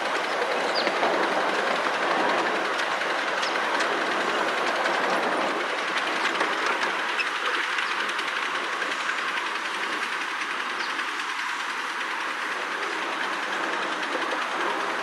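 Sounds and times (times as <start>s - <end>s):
train wagon wheels rolling: 0.0s - 15.0s.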